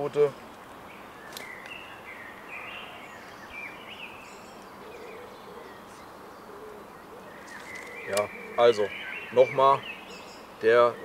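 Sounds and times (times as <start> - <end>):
small birds chirping: 0.0 - 11.0
steady outdoor hiss: 0.0 - 11.0.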